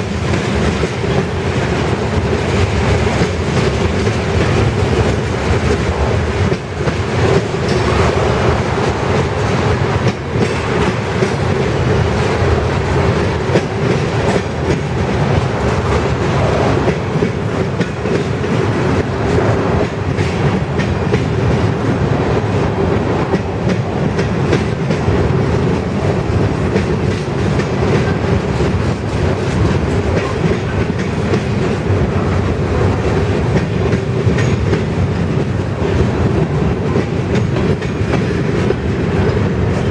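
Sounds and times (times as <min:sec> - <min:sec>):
freight train rumbling past: 0:00.0 - 0:39.9
train wheels clacking over rail joints: 0:00.0 - 0:39.9.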